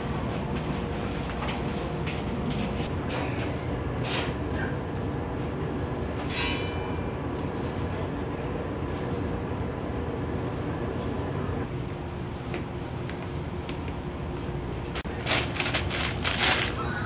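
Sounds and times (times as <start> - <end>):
machinery and ventilation hum: 0.0 - 17.0.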